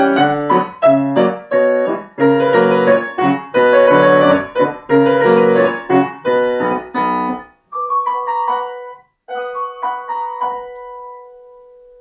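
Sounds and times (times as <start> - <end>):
solo instrumental music: 0.0 - 12.0.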